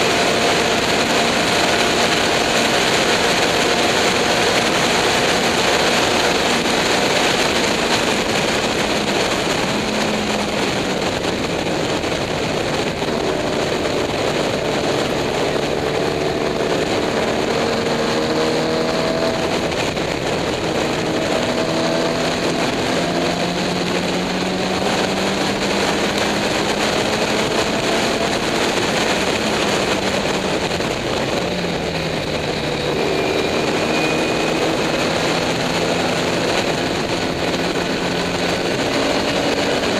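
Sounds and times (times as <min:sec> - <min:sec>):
race car engine at full throttle: 0:00.0 - 0:39.9
wind and road noise: 0:00.0 - 0:39.9.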